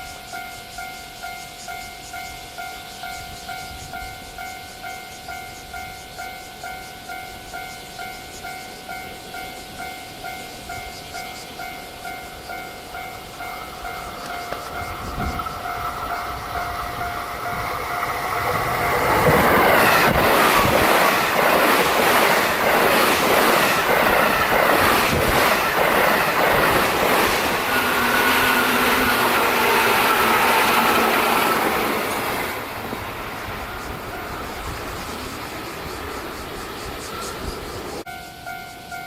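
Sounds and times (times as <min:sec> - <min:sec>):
train wheels clacking over rails: 0:00.0 - 0:38.1
level-crossing warning bell: 0:00.0 - 0:39.0.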